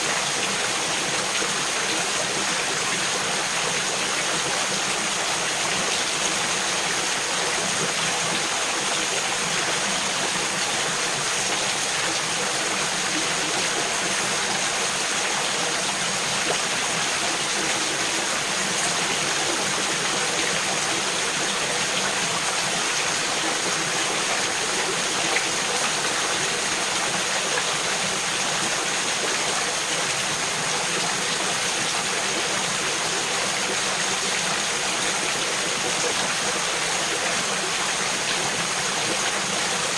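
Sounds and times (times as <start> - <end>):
creek babbling over rocks: 0.0 - 39.9.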